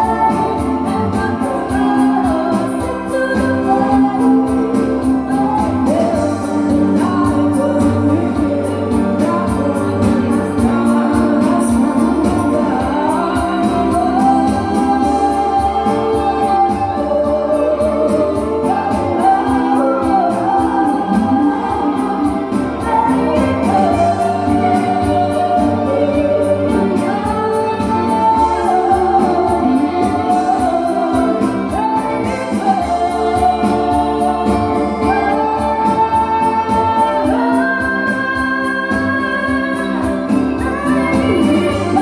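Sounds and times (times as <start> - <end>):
choir singing pop songs: 0.0 - 42.0.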